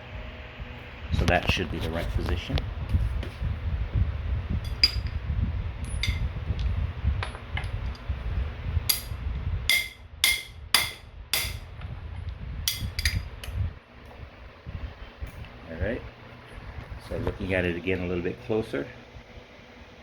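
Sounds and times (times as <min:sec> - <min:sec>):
low rumble: 0:00.0 - 0:17.5.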